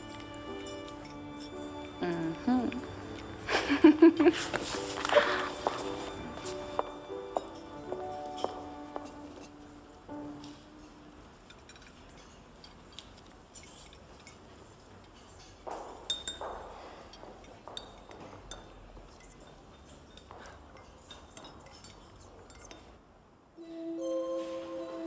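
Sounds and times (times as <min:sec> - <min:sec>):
cutlery and glassware clinking: 0:00.0 - 0:23.0.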